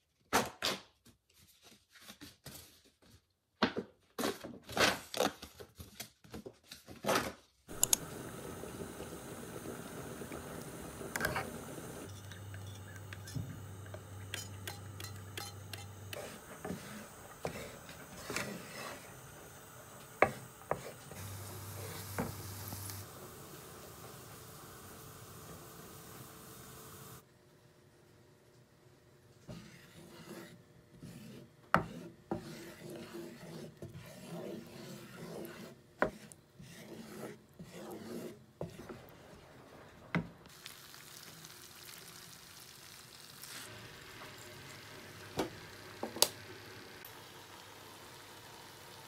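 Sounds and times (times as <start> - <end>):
pasta water boiling: 7.7 - 27.3, 29.4 - 49.0.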